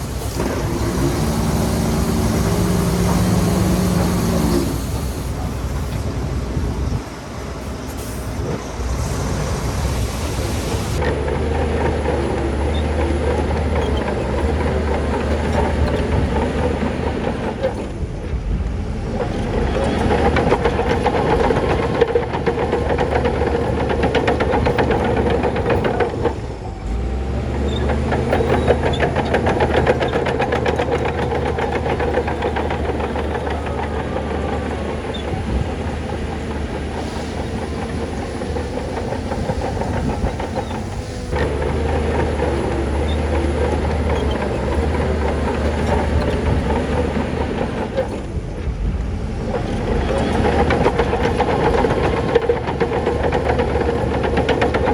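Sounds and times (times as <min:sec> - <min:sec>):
bulldozer diesel engine: 0:00.0 - 0:54.9
steel tracks clanking: 0:00.0 - 0:54.9.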